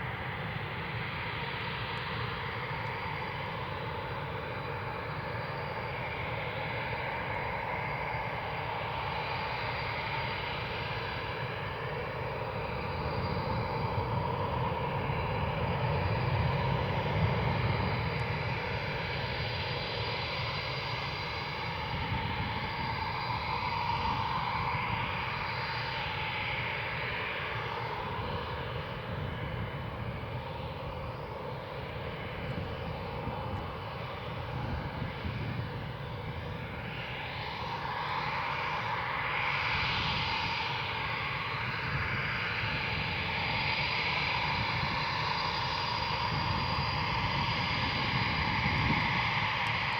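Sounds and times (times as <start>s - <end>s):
jet engines at taxi power: 0.0s - 49.9s.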